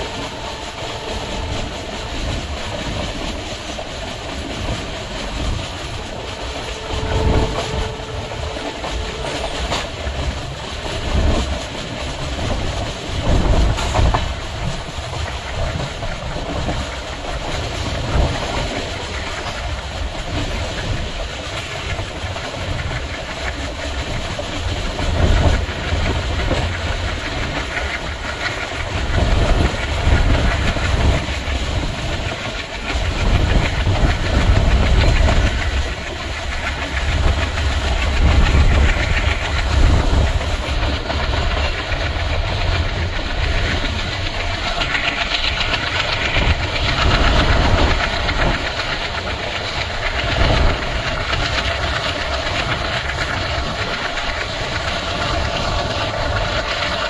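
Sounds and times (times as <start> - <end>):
train wheels clacking over rail joints: 0.0 - 57.0.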